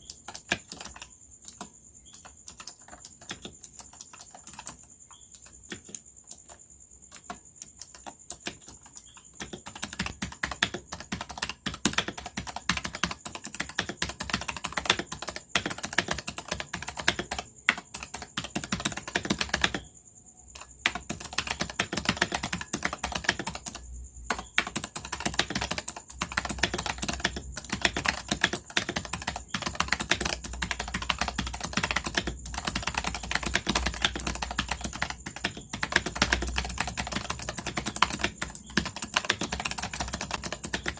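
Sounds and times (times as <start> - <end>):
fast typing with clicky keys: 0.0 - 40.9.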